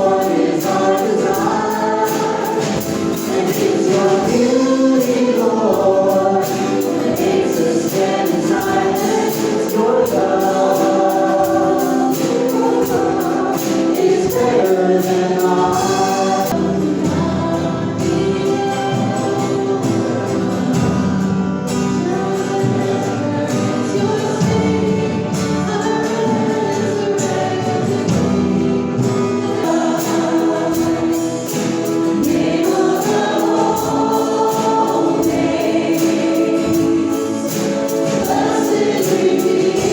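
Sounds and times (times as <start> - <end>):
choir singing: 0.0 - 39.9
instrumental accompaniment: 0.0 - 39.9.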